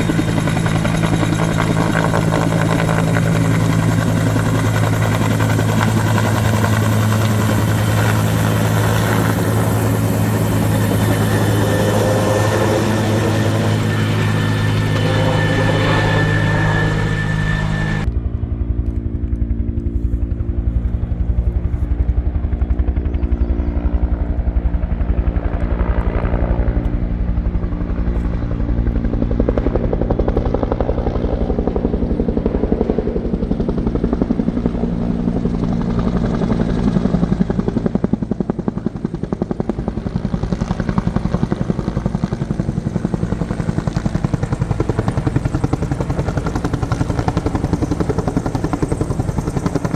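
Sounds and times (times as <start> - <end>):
helicopter rotor chopping: 0.0 - 49.9.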